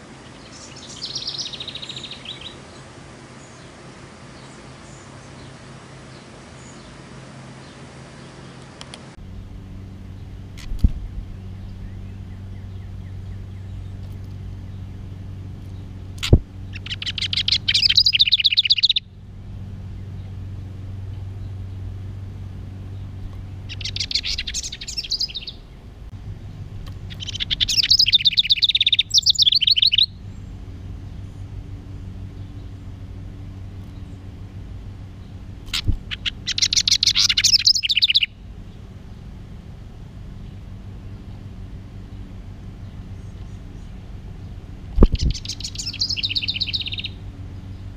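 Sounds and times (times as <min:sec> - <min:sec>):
steady low hum: 0:00.0 - 0:47.9
wren chattering song: 0:00.0 - 0:47.9.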